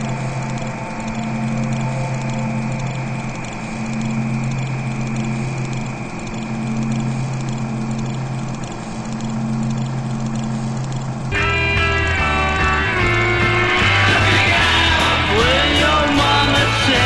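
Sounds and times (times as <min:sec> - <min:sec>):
fast even rattle: 0:00.0 - 0:17.0
low hum of held tones: 0:00.0 - 0:17.0.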